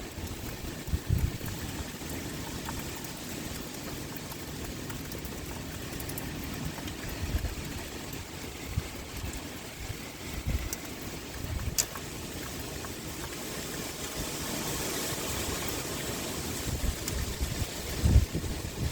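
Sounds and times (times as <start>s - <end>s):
heavy rain: 0.0s - 18.9s.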